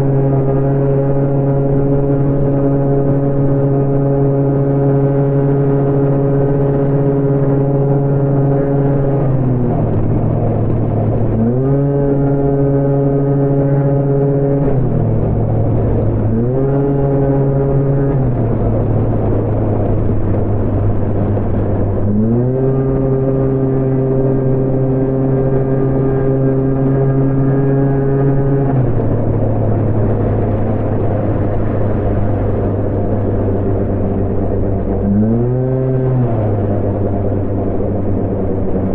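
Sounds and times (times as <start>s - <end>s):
scooter engine revving: 0.0s - 38.9s
wind and road noise: 0.0s - 38.9s.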